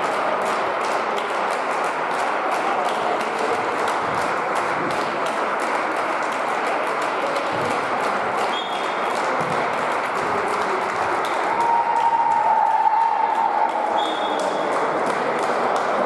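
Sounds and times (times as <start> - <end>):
people clapping hands: 0.0 - 16.0.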